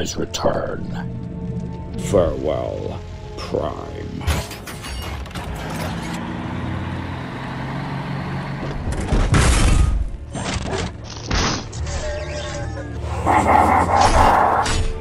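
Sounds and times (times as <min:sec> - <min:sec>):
dramatic film score music: 0:00.0 - 0:15.0.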